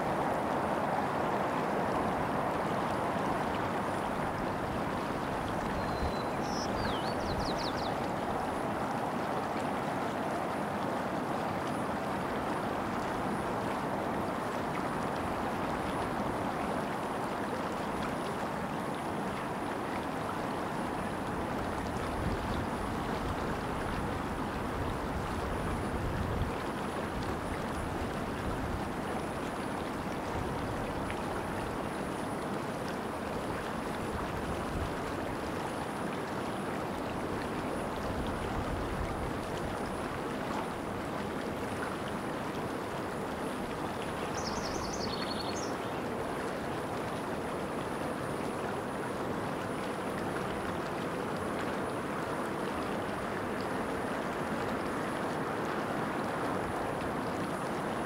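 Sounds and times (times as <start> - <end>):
creek running over rocks: 0.0 - 58.0.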